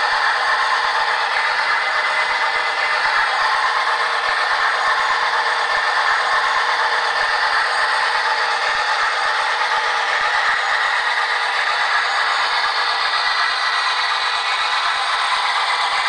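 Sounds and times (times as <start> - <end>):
diesel engine from small speaker: 0.0 - 16.0
model wheels rattling over track: 0.0 - 16.0.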